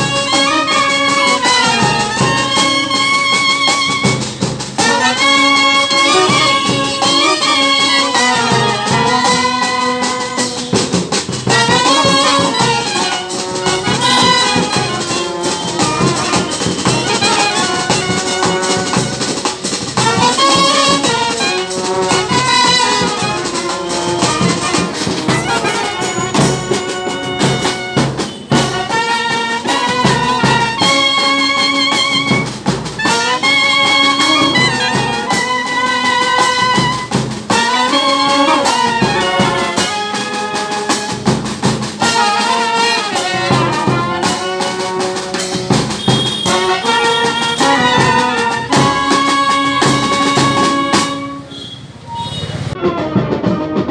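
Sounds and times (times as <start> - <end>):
snare drum: 0.0 - 51.7, 52.8 - 53.9
brass band playing: 0.0 - 53.9.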